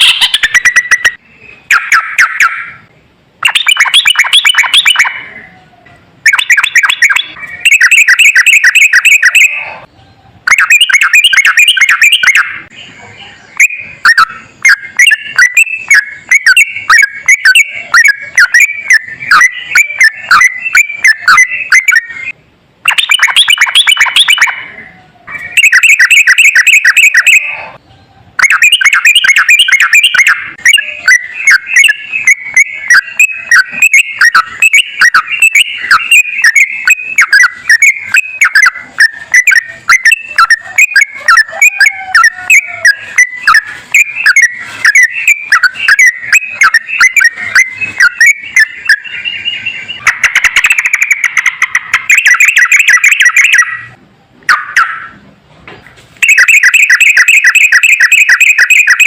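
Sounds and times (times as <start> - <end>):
bird chattering song: 0.0 - 55.2, 56.2 - 59.0.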